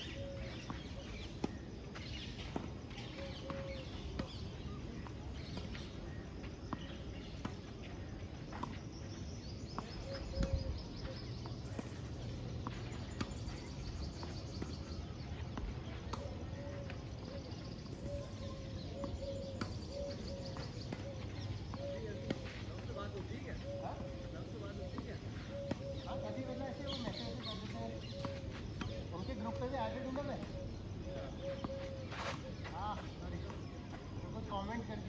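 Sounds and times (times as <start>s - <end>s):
birds calling: 0.0s - 35.0s.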